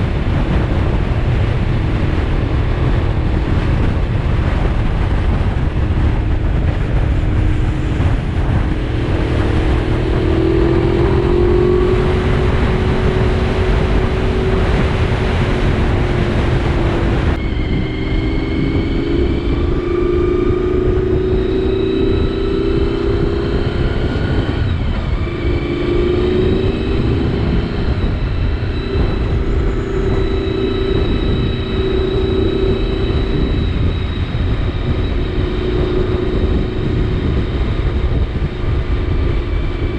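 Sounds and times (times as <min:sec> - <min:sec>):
motorcycle engine cruising: 0:00.0 - 0:39.9
wind rush: 0:00.0 - 0:39.9.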